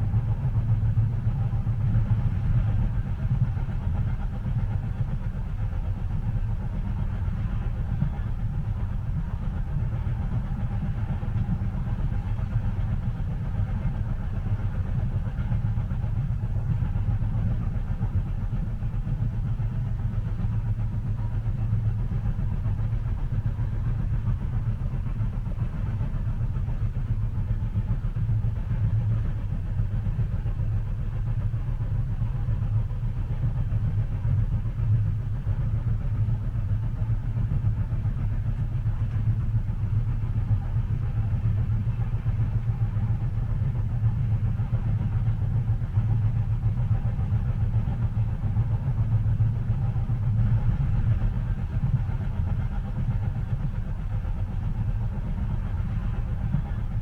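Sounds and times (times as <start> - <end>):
train rumble inside passenger car: 0.0 - 57.0.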